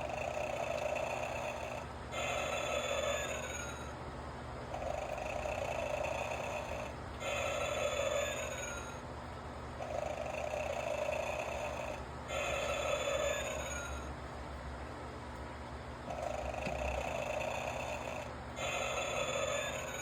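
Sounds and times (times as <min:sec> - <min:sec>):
toy recorded snoring: 0:00.0 - 0:03.9, 0:04.7 - 0:09.0, 0:09.8 - 0:14.1, 0:16.1 - 0:20.0
low steady hum: 0:00.0 - 0:20.0.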